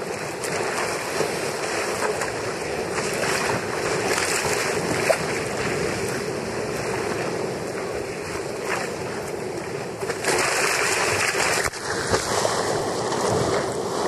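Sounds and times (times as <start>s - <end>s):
rough sea breaking on kayak: 0.0s - 14.0s
wind on microphone: 0.0s - 14.0s.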